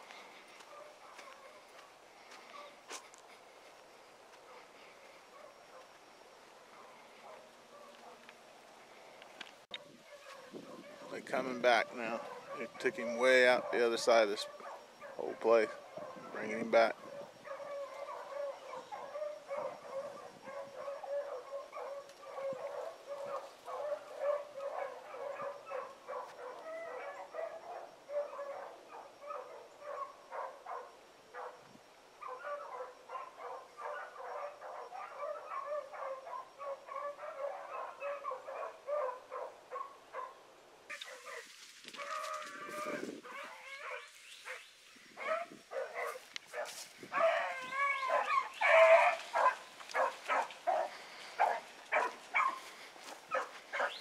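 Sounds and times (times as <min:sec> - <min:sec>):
hounds baying: 0:00.0 - 0:08.4, 0:09.7 - 0:54.0
hissy background: 0:00.0 - 0:54.0.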